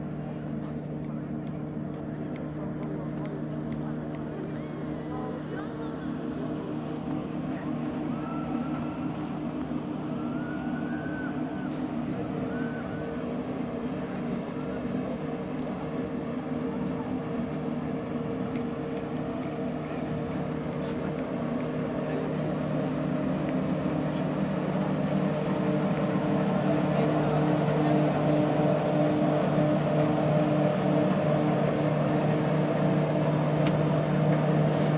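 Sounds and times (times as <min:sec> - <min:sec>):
chairlift machinery humming: 0:00.0 - 0:34.9.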